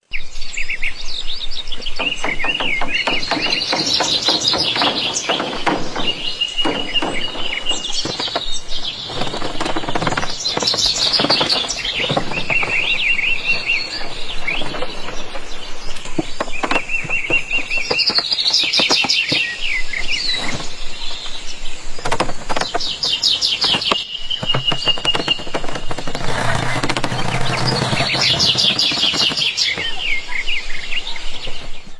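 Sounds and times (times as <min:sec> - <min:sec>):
birds chirping and trilling: 0:00.0 - 0:31.9.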